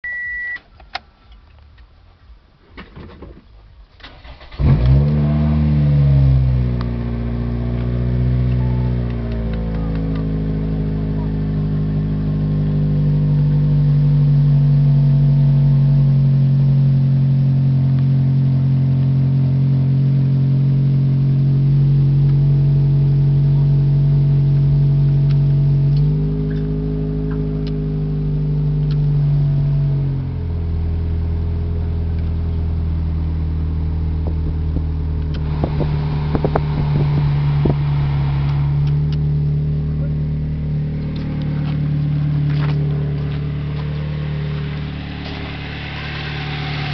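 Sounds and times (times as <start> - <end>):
car engine running: 4.1 - 46.9.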